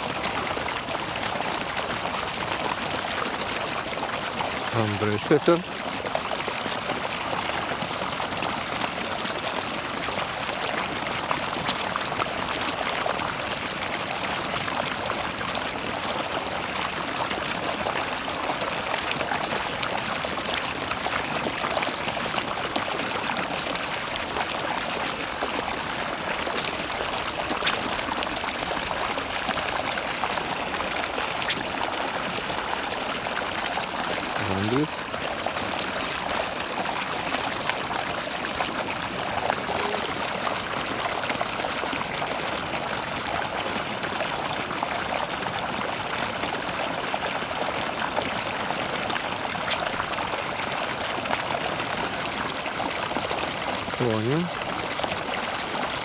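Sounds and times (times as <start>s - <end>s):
running splashing water: 0.0s - 56.0s.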